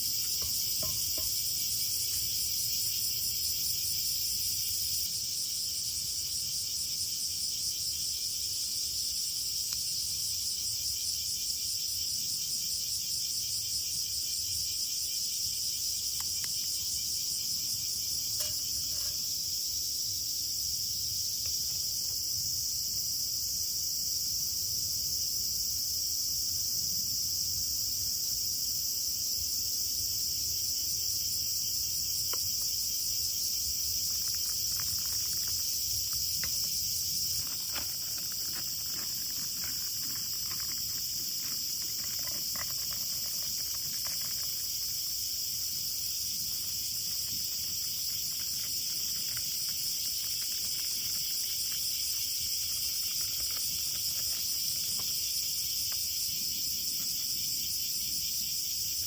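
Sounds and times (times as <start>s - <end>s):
crickets and insects chirring: 0.0s - 59.0s.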